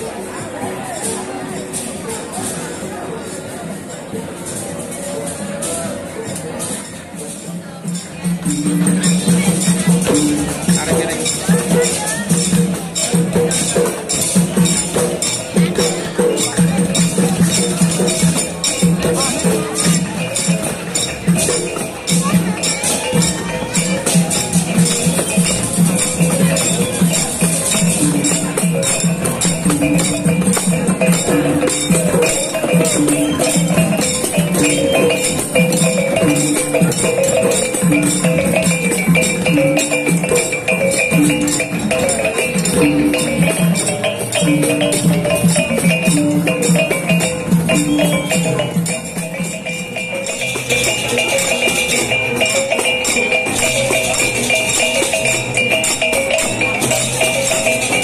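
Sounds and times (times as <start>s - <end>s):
music with quick percussion: 0.0s - 58.0s.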